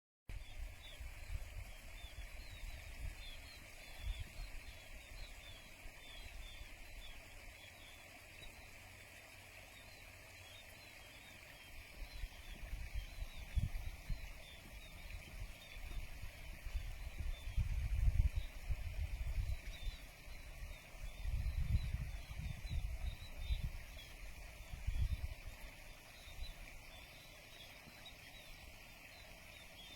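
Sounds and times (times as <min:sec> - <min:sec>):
small birds chirping: 0:00.3 - 0:29.9.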